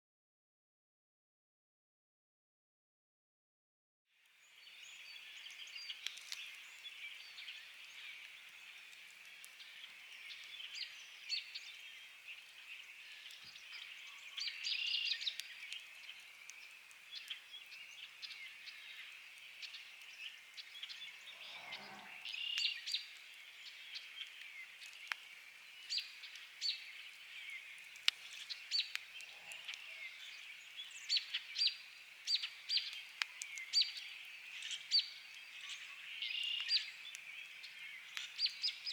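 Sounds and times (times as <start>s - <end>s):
campfire crackling and popping: 4.2s - 38.9s
birds chirping: 4.4s - 38.9s.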